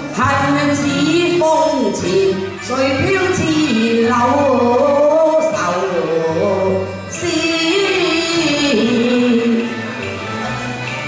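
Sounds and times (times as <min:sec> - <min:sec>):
opera singing with accompaniment: 0:00.0 - 0:10.5.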